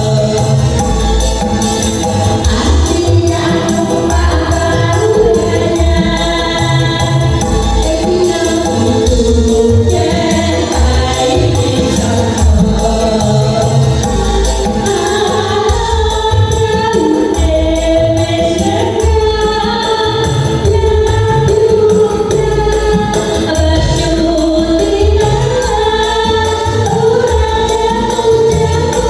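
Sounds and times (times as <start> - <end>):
jingling percussion: 0.0 - 29.0
steady drum beat: 0.0 - 29.0
voices singing together: 0.0 - 29.0.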